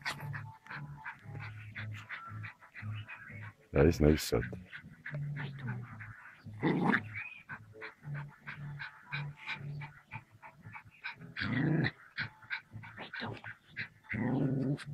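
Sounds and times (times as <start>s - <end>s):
dog vocalising: 0.0s - 3.6s, 4.4s - 14.9s.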